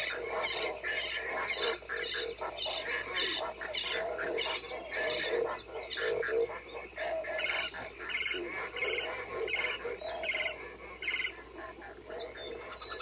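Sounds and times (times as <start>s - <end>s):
animal calls and chirps: 0.0s - 13.0s.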